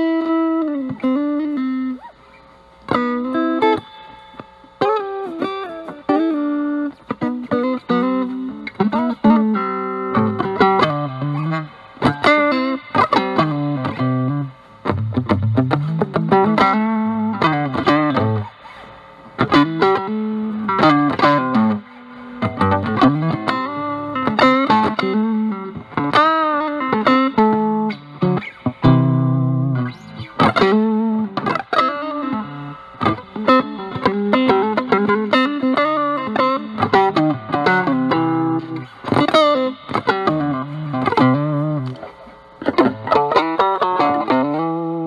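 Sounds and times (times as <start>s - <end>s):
fuzz electric guitar blues lead: 0.0s - 45.0s.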